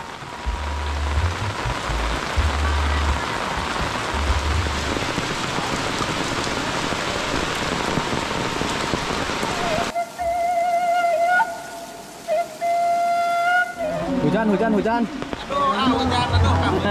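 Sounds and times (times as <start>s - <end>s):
rain falling: 0.0s - 16.9s.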